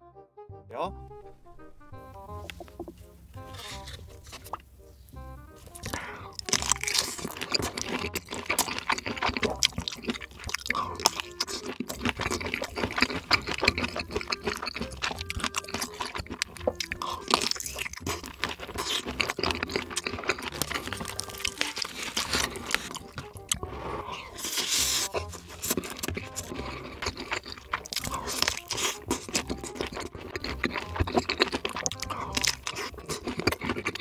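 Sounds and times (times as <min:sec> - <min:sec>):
person chewing food: 0:01.2 - 0:34.0.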